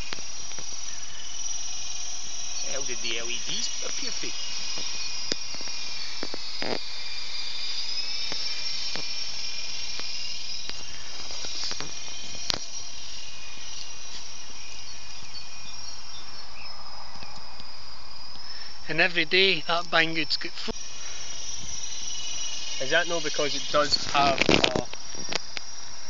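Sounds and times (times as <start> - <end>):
model helicopter whine: 0.0 - 16.3, 18.6 - 26.0.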